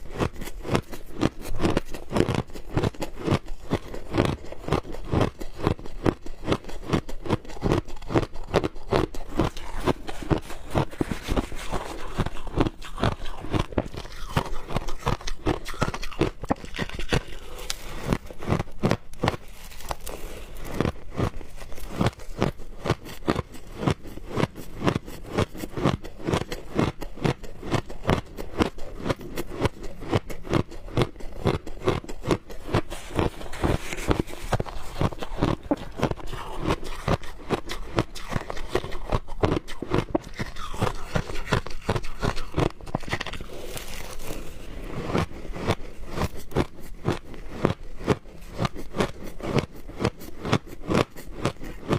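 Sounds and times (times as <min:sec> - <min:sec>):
crunching shaved ice: 0:00.0 - 0:51.9.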